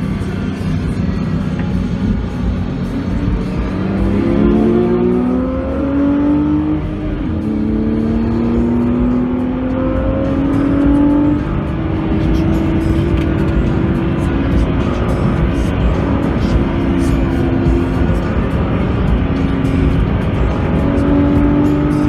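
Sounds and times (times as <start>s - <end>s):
car engine accelerating with upshifts: 0.0s - 22.0s
road and wind noise: 0.0s - 22.0s.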